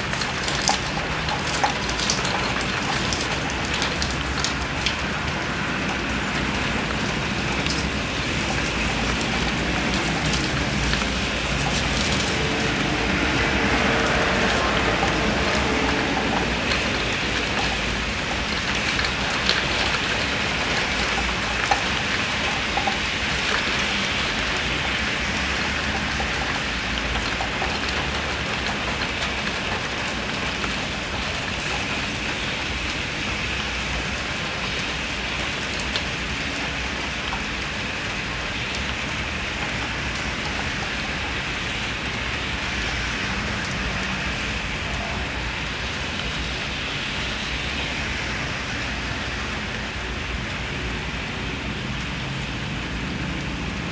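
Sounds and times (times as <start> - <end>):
heavy rain falling: 0.0 - 53.9
strong wind rumbling: 0.0 - 53.9.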